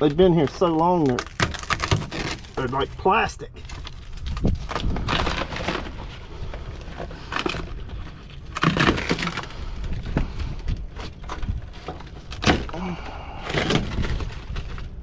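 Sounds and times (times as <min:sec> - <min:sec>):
brittle debris crackling: 0:00.0 - 0:15.0.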